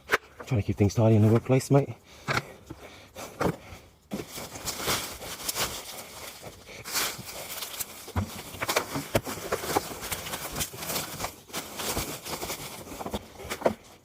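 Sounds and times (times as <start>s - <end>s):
rustling and scraping: 0.0s - 14.0s.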